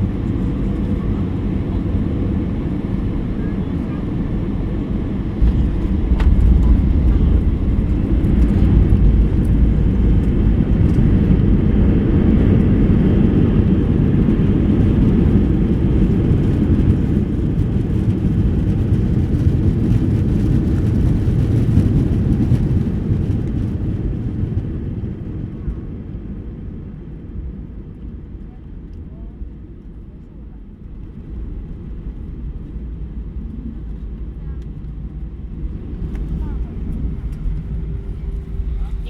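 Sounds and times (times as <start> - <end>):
airliner cabin rumble: 0.0 - 39.0.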